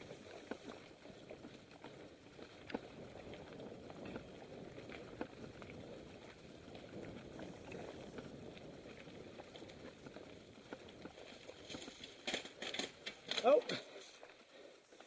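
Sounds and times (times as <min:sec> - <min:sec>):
bike clicks and rattles: 0:00.0 - 0:15.0
bike tyres crunching on dirt: 0:00.0 - 0:15.0.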